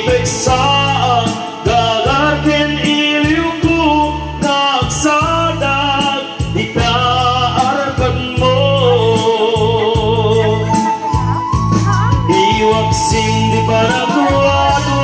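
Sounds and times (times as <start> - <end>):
man singing into a microphone: 0.0 - 11.6, 12.2 - 15.0
backing track with pulsing bass: 0.0 - 15.0.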